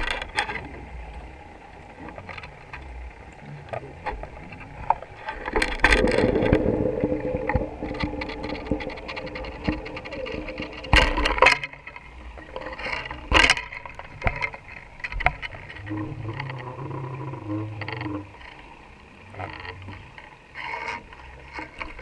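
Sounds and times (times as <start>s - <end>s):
low steady hum: 0.0s - 22.0s
muffled underwater water rush: 0.0s - 22.0s.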